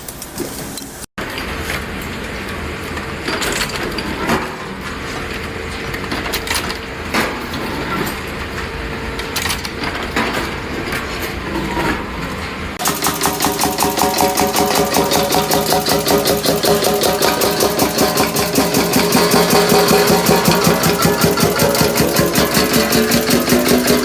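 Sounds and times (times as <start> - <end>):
mechanical knocks and clatters: 0.1 - 24.0
machinery rumble and hum: 1.2 - 24.0.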